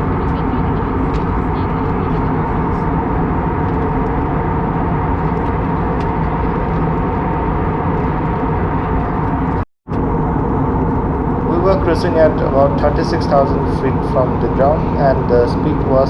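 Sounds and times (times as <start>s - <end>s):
airliner cabin engine roar: 0.0s - 16.0s
steady cabin hum: 0.0s - 16.0s.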